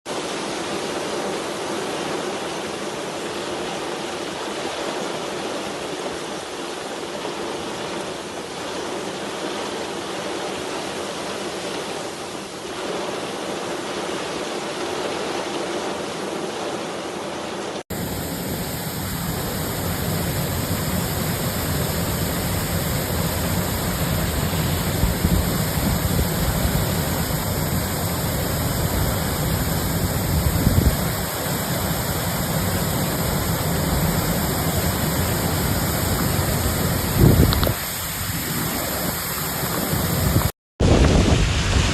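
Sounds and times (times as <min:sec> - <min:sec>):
heavy rain: 0:00.1 - 0:41.9
running rainwater: 0:00.1 - 0:41.9.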